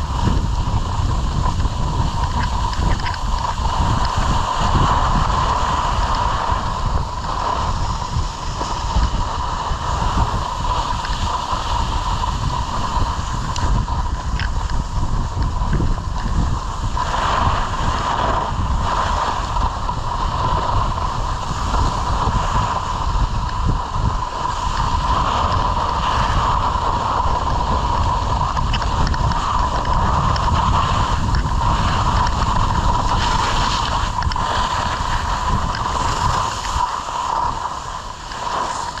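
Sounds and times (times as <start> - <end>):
skis scraping on snow: 0.0 - 39.0
steady whine: 0.0 - 39.0
wind buffeting microphone: 0.0 - 39.0.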